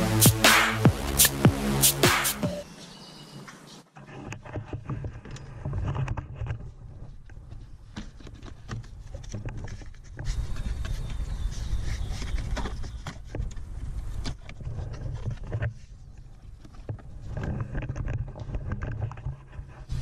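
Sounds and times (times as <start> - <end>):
felt lining scraping and rustling: 4.0 - 20.0.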